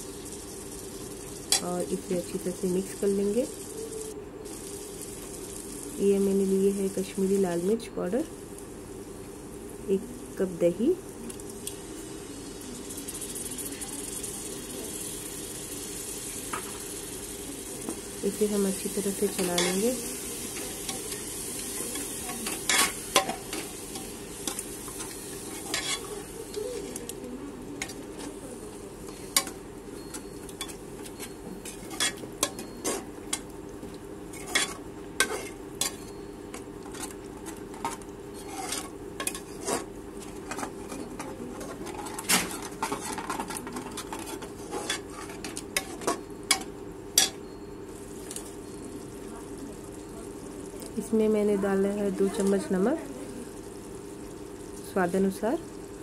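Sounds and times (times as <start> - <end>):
frying sizzle: 0.0 - 56.0.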